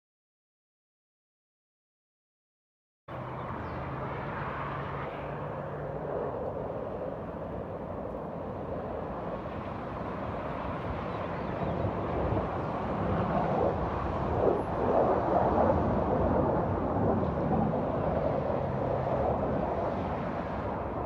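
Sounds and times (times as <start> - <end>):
distant jet roar: 3.1 - 21.0.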